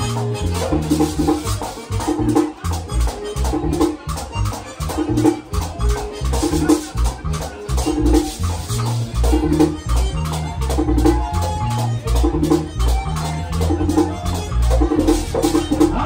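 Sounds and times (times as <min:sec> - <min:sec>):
guira scraping rhythm: 0:00.0 - 0:16.0
latin dance band playing: 0:00.0 - 0:16.0.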